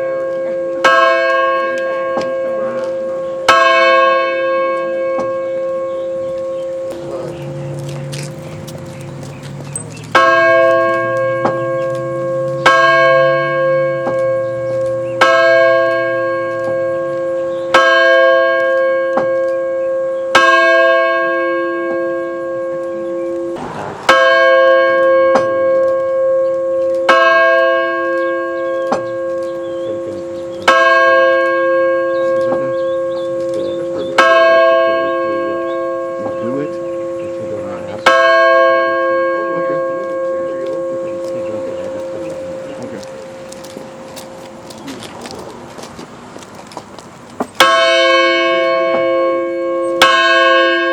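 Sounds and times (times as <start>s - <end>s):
large bell tolling: 0.0s - 8.7s, 9.7s - 43.5s, 47.6s - 50.9s.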